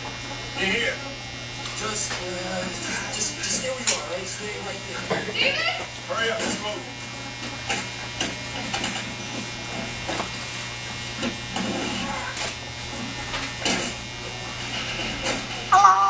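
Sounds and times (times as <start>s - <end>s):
hair clippers buzzing: 0.0s - 14.4s.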